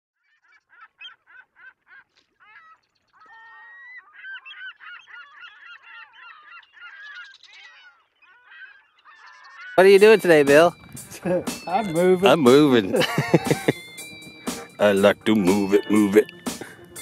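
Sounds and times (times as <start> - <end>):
birds calling: 0.2 - 17.0.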